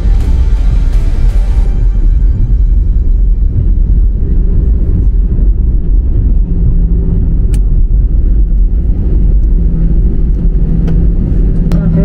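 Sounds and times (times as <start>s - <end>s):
faint hum: 0.0s - 12.0s
low rumble of engines and wheels: 0.0s - 12.0s.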